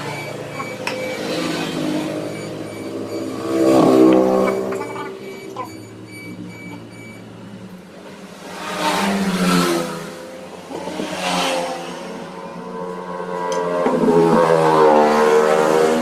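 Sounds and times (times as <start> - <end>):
vehicles passing by: 0.0 - 16.0.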